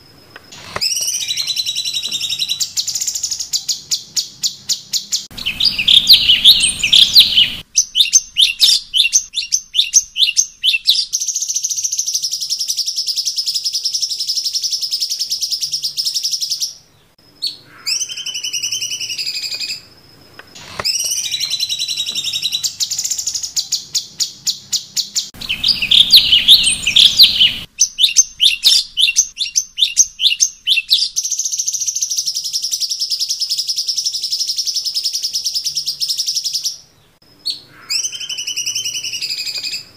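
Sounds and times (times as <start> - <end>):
songbird chirping and trilling: 0.2 - 39.9.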